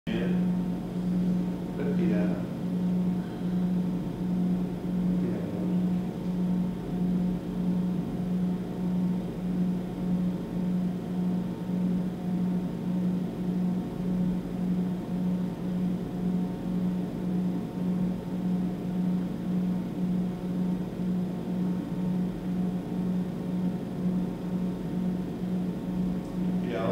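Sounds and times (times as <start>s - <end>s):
low pulsing hum: 0.1s - 26.9s.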